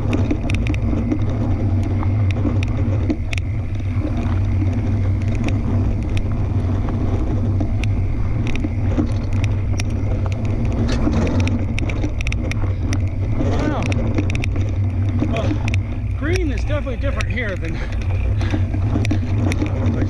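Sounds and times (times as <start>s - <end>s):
bike tyres rumbling on dirt: 0.0s - 20.0s
clicks and rattles over stones: 0.0s - 20.0s.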